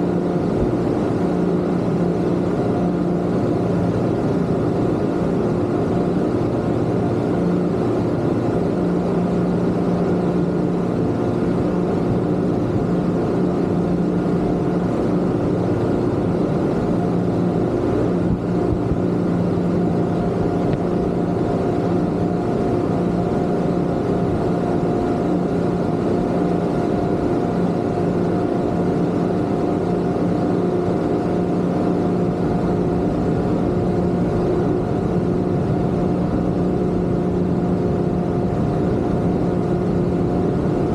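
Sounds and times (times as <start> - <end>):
outboard motors running steadily: 0.0 - 40.9.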